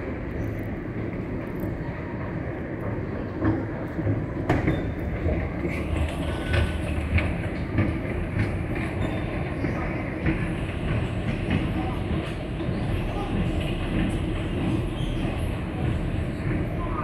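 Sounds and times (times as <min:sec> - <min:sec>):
escalator steps clicking and rattling: 0:00.0 - 0:17.0.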